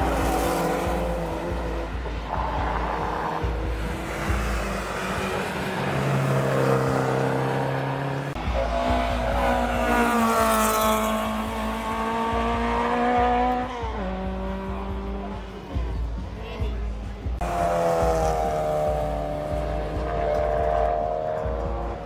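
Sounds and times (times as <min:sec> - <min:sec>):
race car engines passing: 0:00.0 - 0:22.0.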